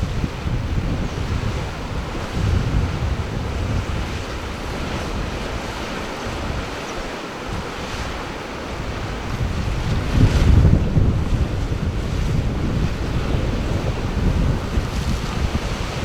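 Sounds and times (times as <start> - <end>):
sea surf washing: 0.0 - 16.0
wind rumbling on microphone: 0.0 - 16.0.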